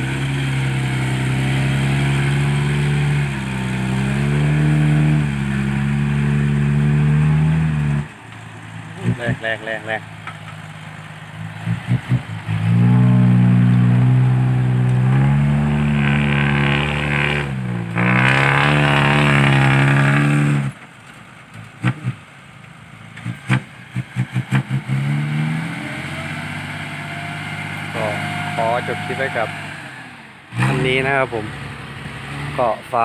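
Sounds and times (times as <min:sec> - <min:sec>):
truck diesel engine high revs: 0:00.0 - 0:10.1, 0:10.7 - 0:20.8, 0:23.0 - 0:33.0.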